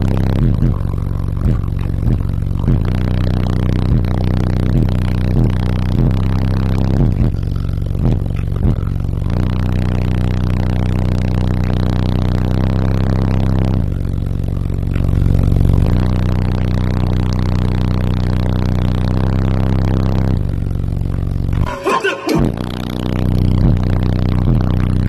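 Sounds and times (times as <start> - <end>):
loud bass-heavy music: 0.0 - 25.0.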